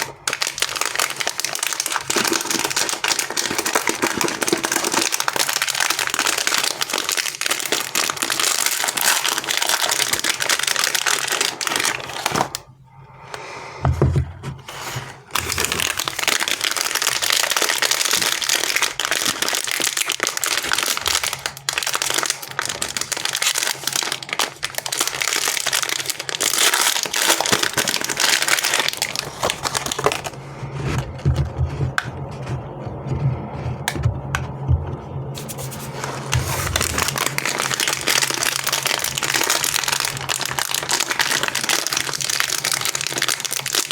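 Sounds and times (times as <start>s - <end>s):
wrappers crinkling: 0.0s - 12.7s, 14.7s - 32.6s, 35.4s - 43.9s.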